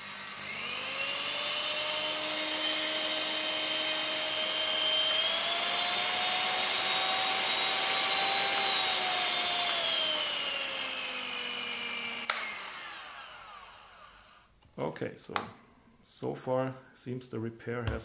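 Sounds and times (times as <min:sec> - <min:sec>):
hand mixer motor whine: 0:00.0 - 0:14.5.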